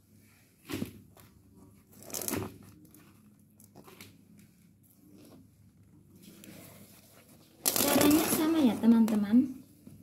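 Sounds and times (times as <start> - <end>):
plastic flower pots rustling: 0.5 - 9.5.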